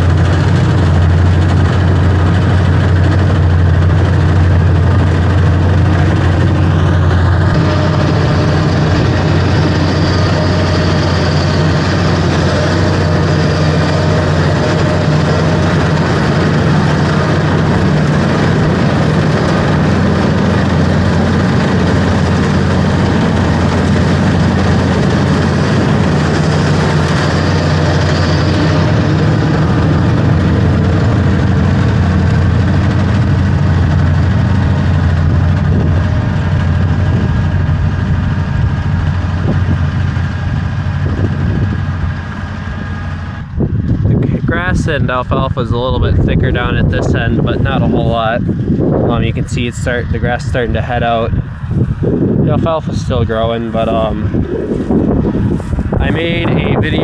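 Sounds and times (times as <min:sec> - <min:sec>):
heavy engine droning: 0:00.0 - 0:57.0.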